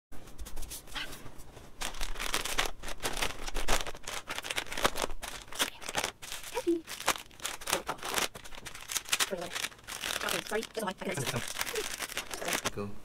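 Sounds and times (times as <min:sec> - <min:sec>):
plastic snack bags crinkling: 0:01.8 - 0:12.8.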